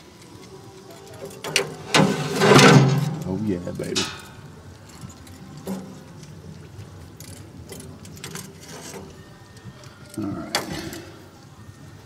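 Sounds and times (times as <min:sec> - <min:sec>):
metal tongs clinking on grill grate: 0:00.0 - 0:11.2.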